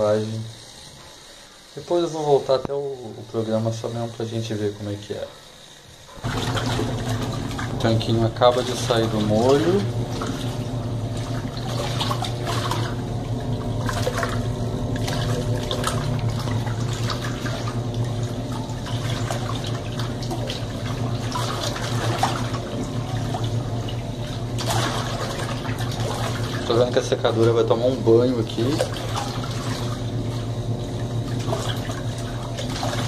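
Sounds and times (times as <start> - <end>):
washing machine motor hum: 0.0 - 33.0
water sloshing and splashing: 6.1 - 33.0.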